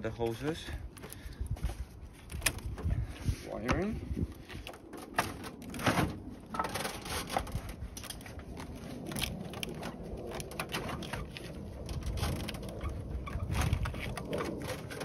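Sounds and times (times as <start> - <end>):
plastic and metal parts scraping: 1.0 - 15.0.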